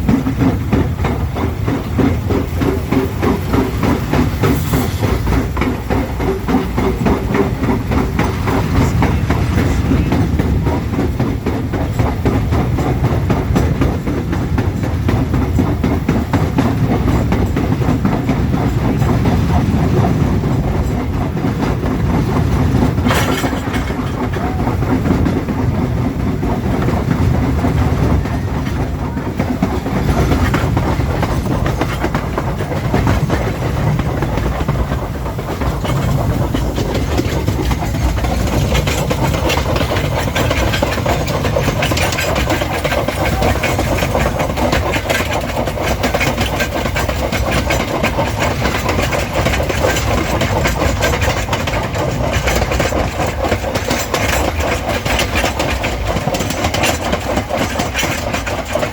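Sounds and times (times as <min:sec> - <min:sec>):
train rumbling: 0:00.0 - 0:58.9
wheels clicking on track: 0:00.0 - 0:58.9.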